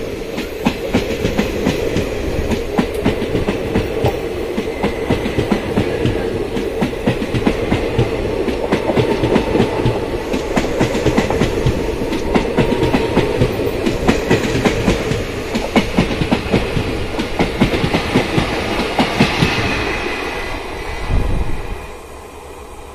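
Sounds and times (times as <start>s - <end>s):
train rumble: 0.0s - 22.9s
train wheels clattering over rail joints: 0.3s - 20.0s.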